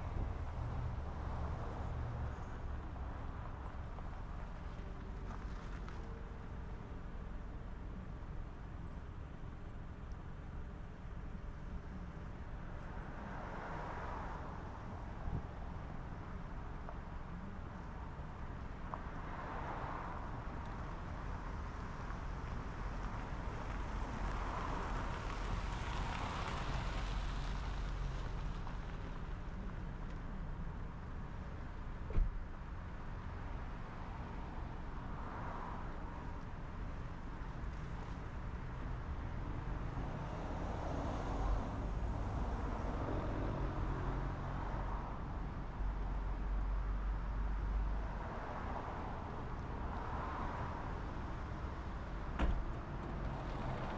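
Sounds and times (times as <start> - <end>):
car road and wind noise: 0.0 - 53.9.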